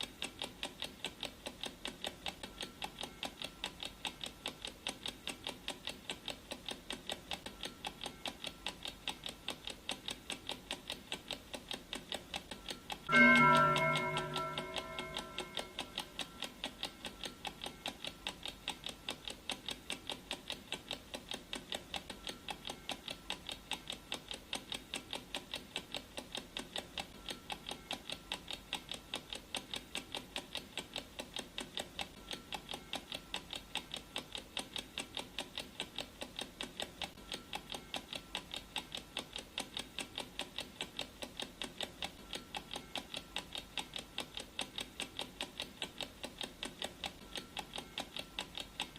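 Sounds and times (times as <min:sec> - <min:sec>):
clock ticking: 0:00.0 - 0:48.9.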